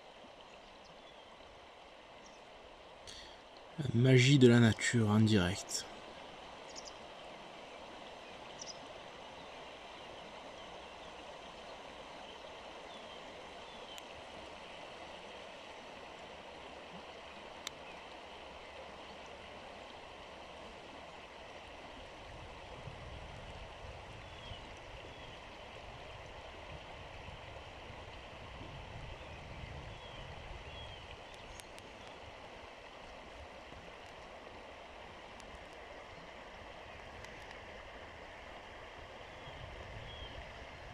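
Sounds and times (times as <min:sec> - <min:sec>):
river water over pebbles: 0:00.0 - 0:40.9.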